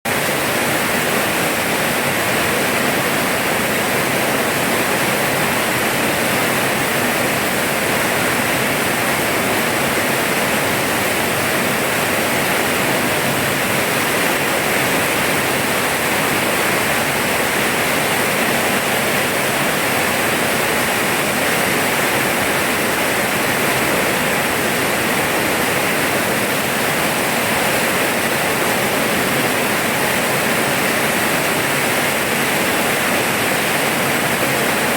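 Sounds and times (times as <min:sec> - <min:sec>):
rain falling steadily: 0:00.1 - 0:34.9.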